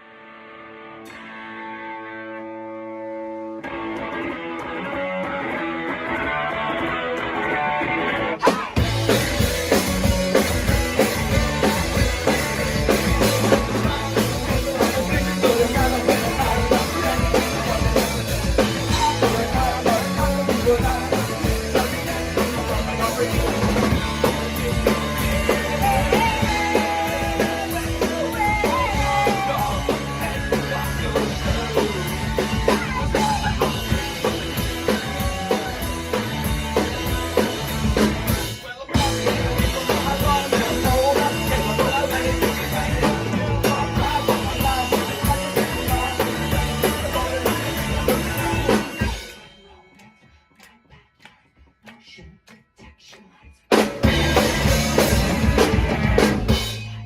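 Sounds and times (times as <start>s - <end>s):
rock band playing: 0.0s - 49.6s, 53.7s - 57.0s
person singing: 8.4s - 56.8s.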